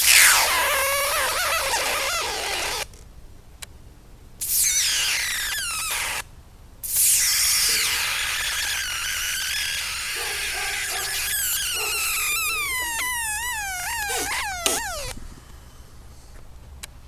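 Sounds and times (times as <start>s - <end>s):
electric arc hissing and whistling: 0.0s - 2.9s, 4.4s - 15.2s.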